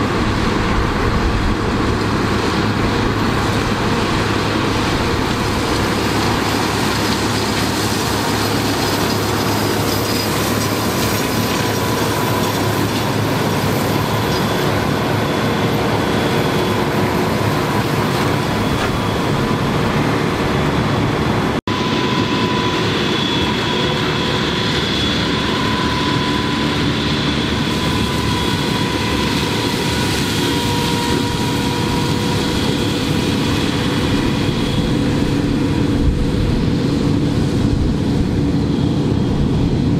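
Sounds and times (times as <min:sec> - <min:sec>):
machinery whine: 0:00.0 - 0:39.9
tractor drone under load: 0:00.0 - 0:39.9.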